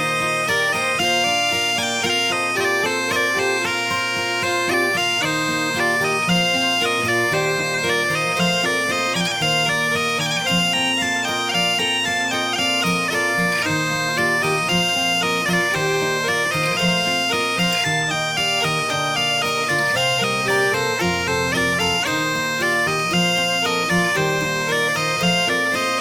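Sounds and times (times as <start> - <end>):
bagpipe music: 0.0 - 26.0.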